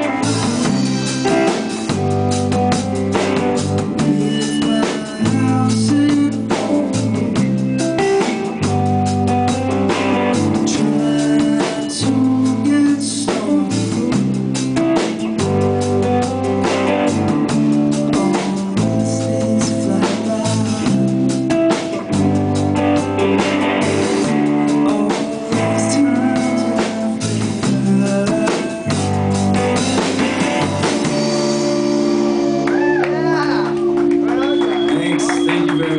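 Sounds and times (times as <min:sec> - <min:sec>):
drum kit beat: 0:00.0 - 0:35.9
electric bass: 0:00.0 - 0:35.9
electric guitar riff: 0:00.0 - 0:35.9.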